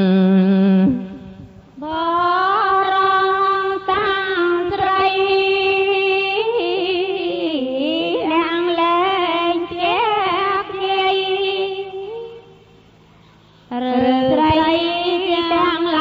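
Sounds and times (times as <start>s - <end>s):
person chanting verses: 0.0s - 12.6s, 13.7s - 16.0s.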